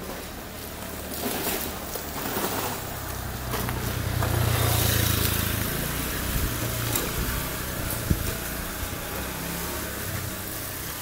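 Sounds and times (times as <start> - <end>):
motor hum: 0.0 - 11.0
tyres hissing on wet road: 0.0 - 11.0.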